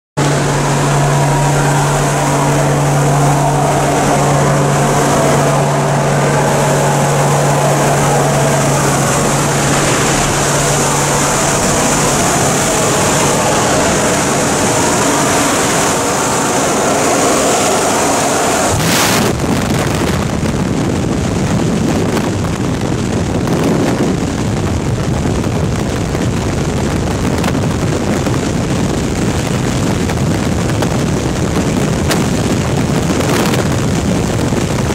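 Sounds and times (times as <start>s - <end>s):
freefall wind on microphone: 0.2s - 34.9s
plane engine running: 0.2s - 34.9s
wind rushing through door: 0.2s - 34.9s.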